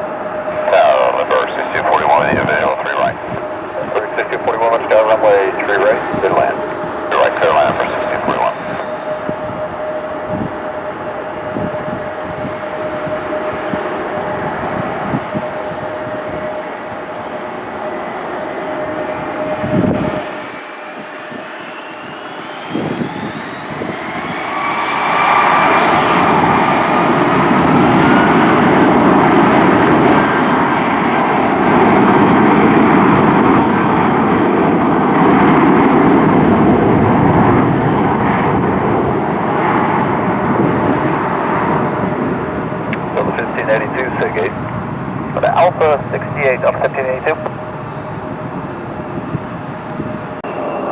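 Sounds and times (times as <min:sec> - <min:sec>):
jet engine roar: 0:00.0 - 0:50.9
jet engine whine: 0:00.0 - 0:50.9.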